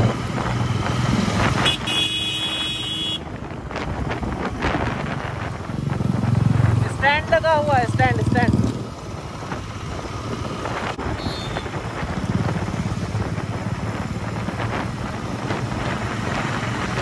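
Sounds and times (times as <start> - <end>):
wind rushing over microphone: 0.0 - 17.0
motorcycle engine running: 1.3 - 17.0.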